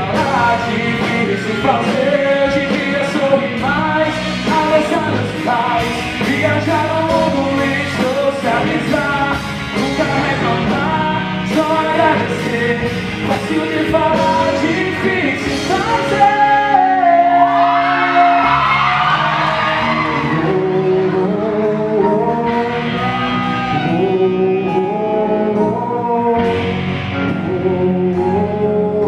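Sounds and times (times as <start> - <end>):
live rock pop band playing: 0.0 - 29.0
melodic lead line: 0.0 - 29.0.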